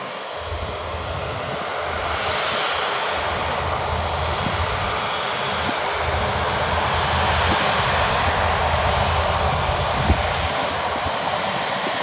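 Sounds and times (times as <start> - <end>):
aircraft engines rushing: 0.0 - 12.0.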